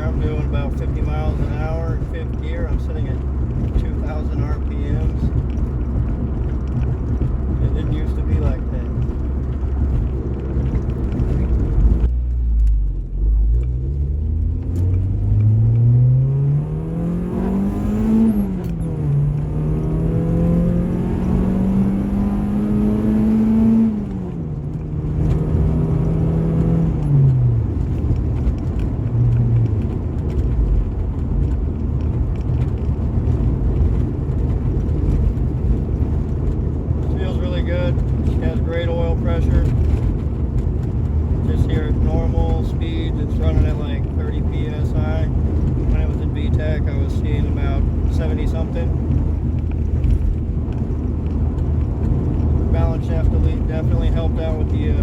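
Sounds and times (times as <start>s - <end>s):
car engine accelerating hard: 0.0s - 55.0s
road drone: 0.0s - 55.0s.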